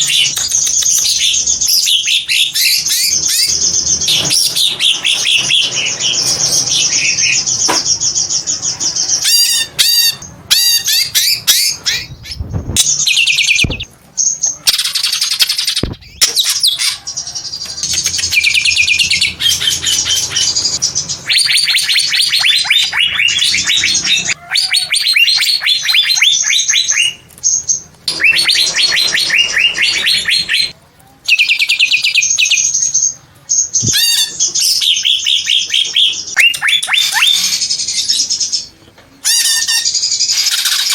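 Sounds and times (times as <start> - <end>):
bird chirping and chattering: 0.0 - 40.9.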